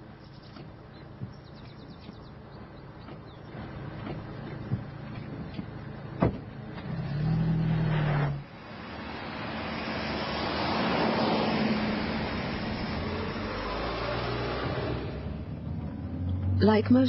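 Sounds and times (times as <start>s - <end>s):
car noise: 0.0s - 17.0s.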